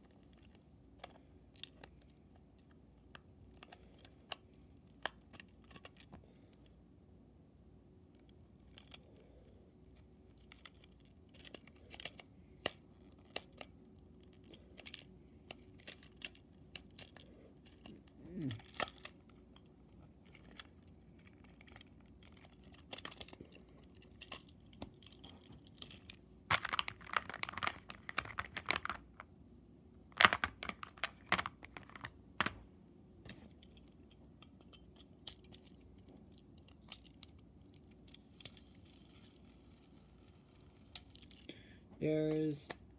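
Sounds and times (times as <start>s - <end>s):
plastic toy parts clicking and rattling: 0.0s - 6.7s, 8.1s - 29.2s, 30.1s - 32.6s, 33.5s - 41.5s.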